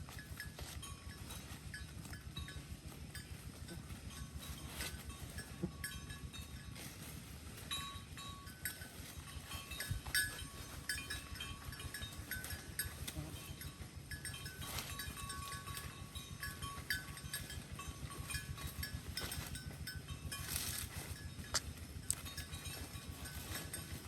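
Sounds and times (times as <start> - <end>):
cattle chewing hay: 0.0 - 24.0.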